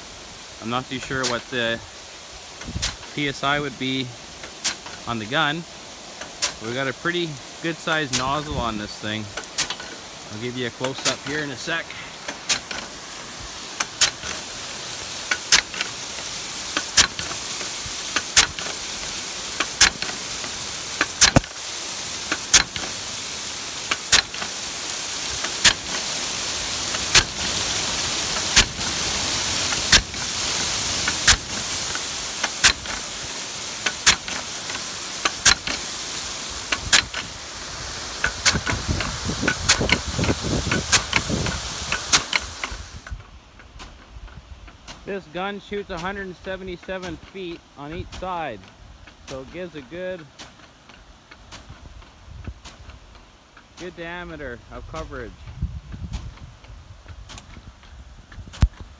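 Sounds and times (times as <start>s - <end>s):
water jet hissing: 0.0s - 44.0s, 44.7s - 55.4s
sprinkler arm clacking: 0.0s - 58.9s.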